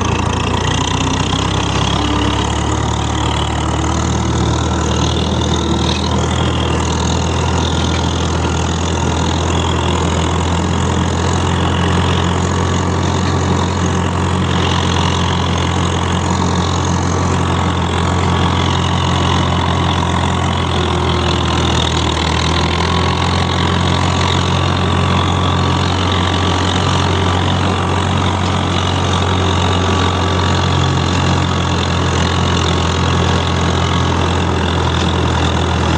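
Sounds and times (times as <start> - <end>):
tractor engine idling: 0.0 - 35.9.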